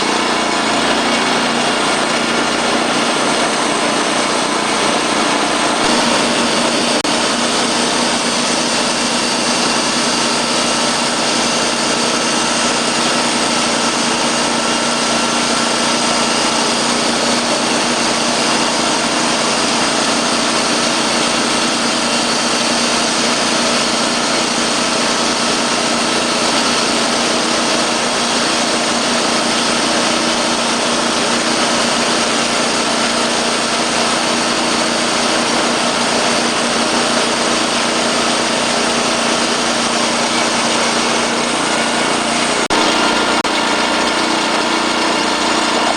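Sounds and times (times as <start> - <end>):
band sawmill engine running: 0.0 - 45.9.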